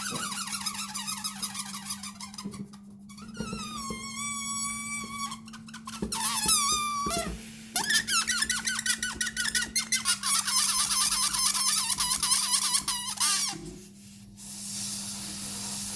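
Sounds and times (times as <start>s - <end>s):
rubber balloon squeaking: 0.0s - 13.8s.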